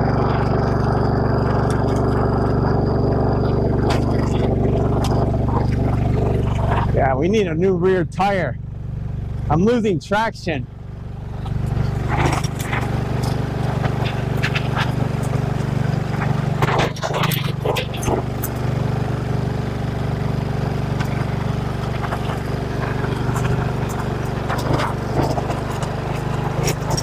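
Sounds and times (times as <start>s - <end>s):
gravel crackling under tyres: 0.0s - 27.0s
motorcycle engine under load: 0.0s - 27.0s.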